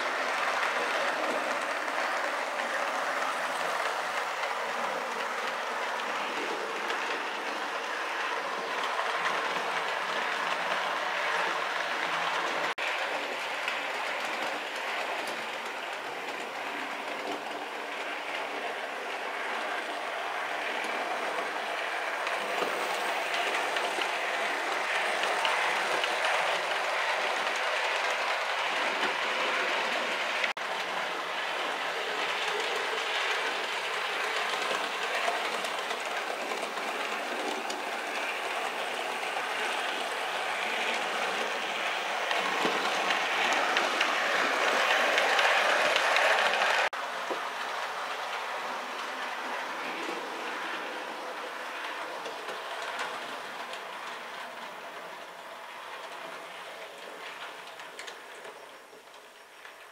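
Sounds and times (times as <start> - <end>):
model trains running on track: 0.0 - 59.9.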